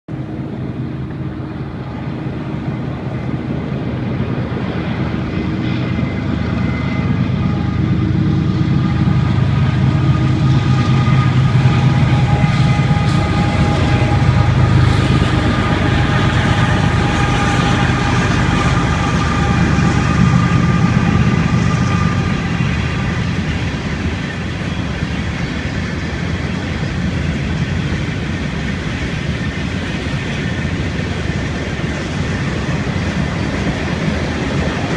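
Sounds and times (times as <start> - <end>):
train rumbling past: 0.1 - 34.9.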